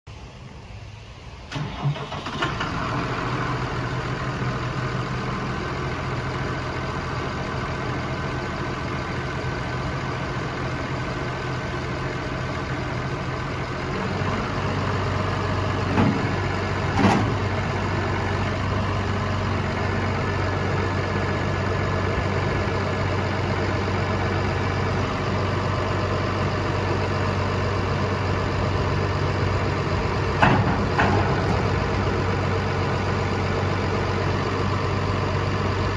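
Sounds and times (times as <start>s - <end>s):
tractor diesel engine idling: 0.1s - 35.9s.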